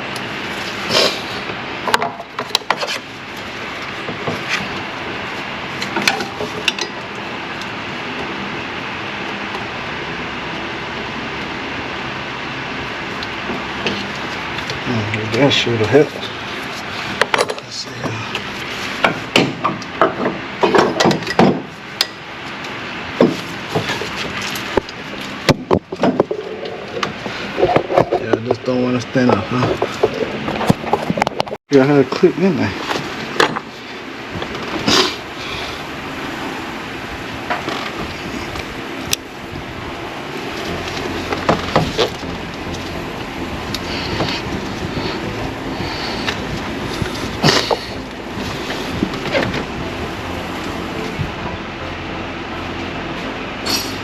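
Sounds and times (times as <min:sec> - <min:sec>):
steady background rush: 0:00.0 - 0:54.0.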